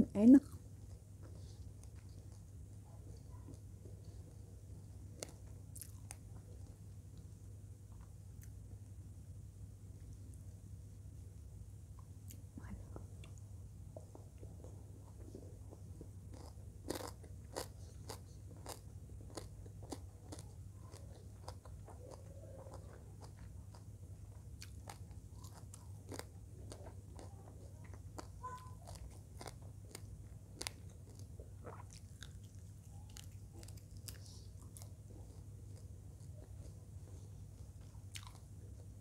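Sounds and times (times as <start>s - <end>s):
low steady hum: 0.0s - 39.0s
person chewing with crunches: 0.4s - 7.3s, 14.0s - 39.0s.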